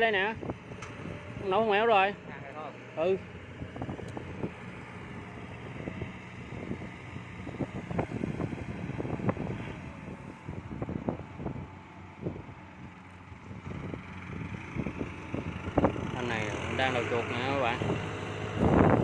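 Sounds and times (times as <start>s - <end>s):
combine harvester engine humming: 0.0s - 19.0s.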